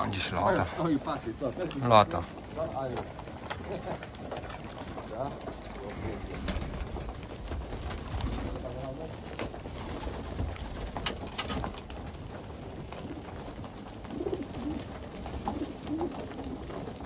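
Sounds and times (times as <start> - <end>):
pigeons cooing: 0.0 - 17.0
wings flapping: 0.0 - 17.0.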